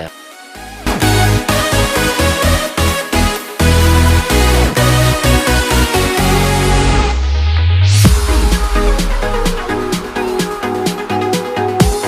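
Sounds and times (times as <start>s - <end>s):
electronic dance music: 0.0s - 12.0s
heavy bass beat: 0.6s - 12.0s.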